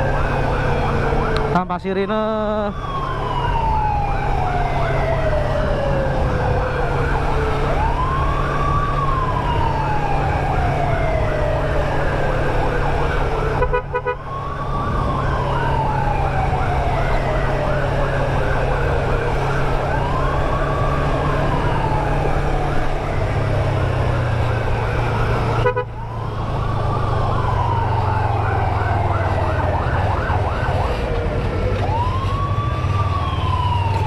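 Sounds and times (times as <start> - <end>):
emergency siren wailing: 0.0 - 34.0
fast repeating siren chirp: 2.5 - 31.2
motorcycle low hum: 2.7 - 34.0.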